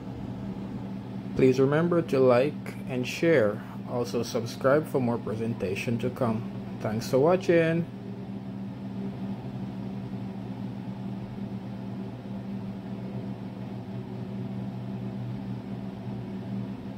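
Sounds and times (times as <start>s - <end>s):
low mechanical hum: 0.0s - 16.9s.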